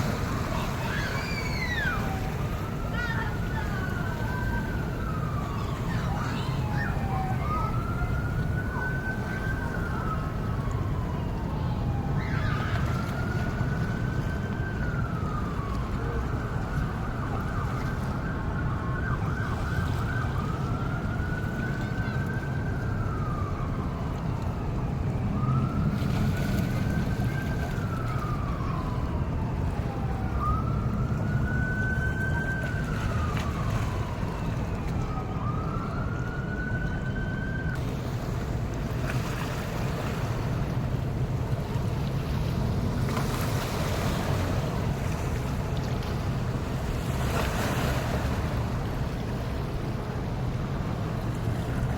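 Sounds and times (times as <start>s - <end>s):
siren wailing: 0.0s - 37.9s, 42.0s - 51.9s.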